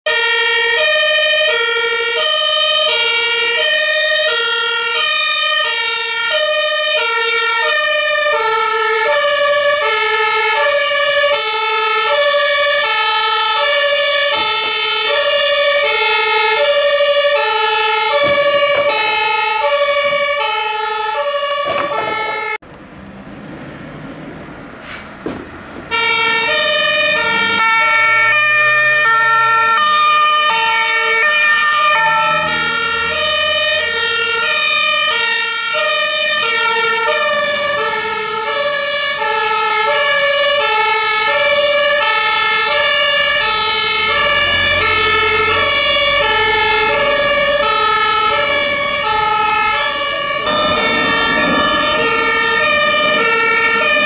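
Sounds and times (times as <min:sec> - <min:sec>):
two-tone siren: 0:00.0 - 0:22.6, 0:25.9 - 0:54.0.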